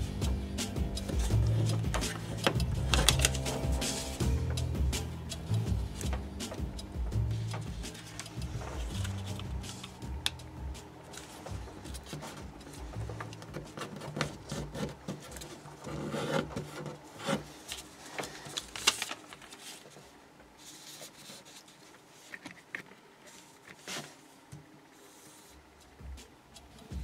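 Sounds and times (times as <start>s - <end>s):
paper being folded and creased: 1.0s - 4.6s, 7.3s - 25.6s.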